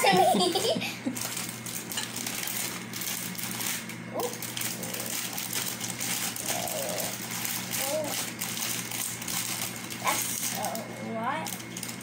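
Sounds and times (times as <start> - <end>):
plastic bag crinkling: 1.1 - 12.0.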